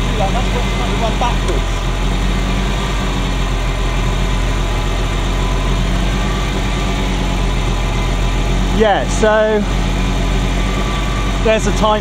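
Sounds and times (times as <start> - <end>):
car engine idling roughly: 0.0 - 12.0.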